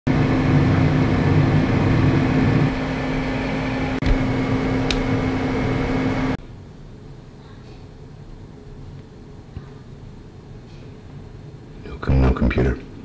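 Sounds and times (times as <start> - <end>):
cooling fans whirring: 0.1 - 13.0.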